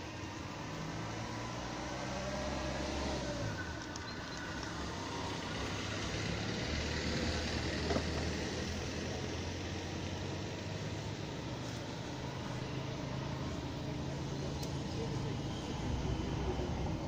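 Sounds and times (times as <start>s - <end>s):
van driving past: 0.0s - 17.0s.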